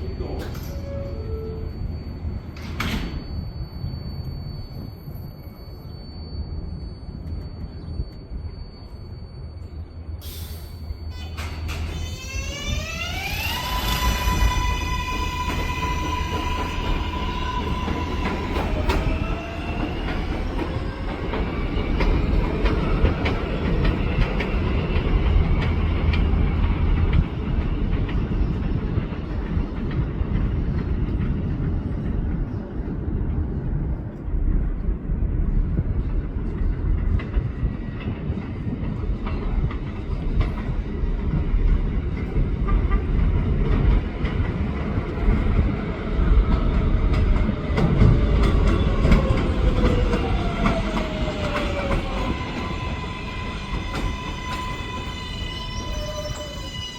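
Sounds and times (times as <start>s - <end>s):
subway train motors whining: 0.0s - 56.9s
train rumble: 0.0s - 56.9s.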